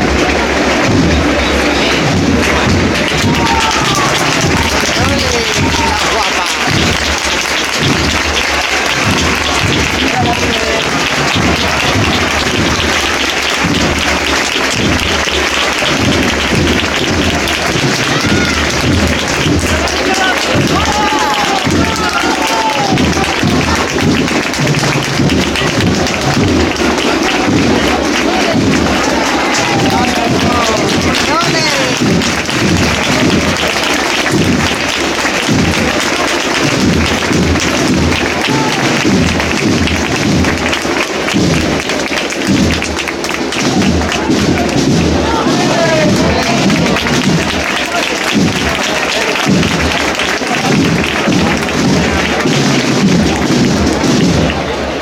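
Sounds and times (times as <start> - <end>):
crowd applauding: 0.0 - 55.0.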